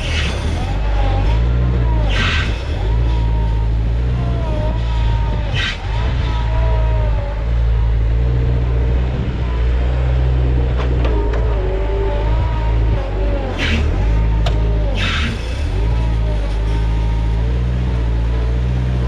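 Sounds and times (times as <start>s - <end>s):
diesel engine running: 0.0s - 19.0s
wavering high whine: 0.0s - 19.0s.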